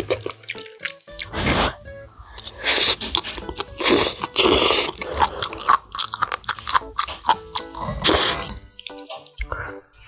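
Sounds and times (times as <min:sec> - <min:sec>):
slurping and chewing: 0:00.0 - 0:09.5
background music: 0:00.0 - 0:10.0.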